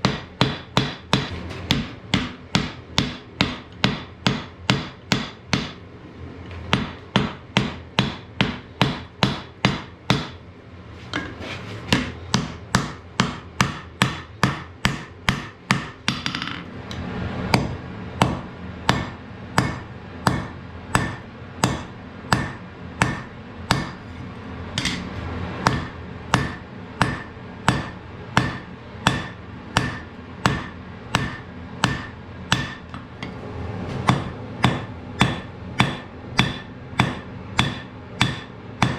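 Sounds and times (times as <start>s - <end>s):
hammer striking metal on anvil: 0.0s - 5.8s, 6.7s - 10.4s, 11.9s - 16.6s, 17.5s - 24.0s, 24.8s - 38.9s.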